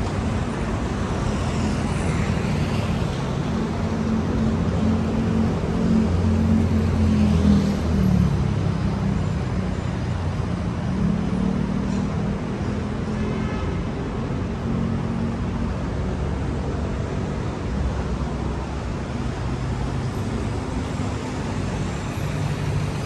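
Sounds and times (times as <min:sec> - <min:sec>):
traffic engines and road noise: 0:00.0 - 0:23.0.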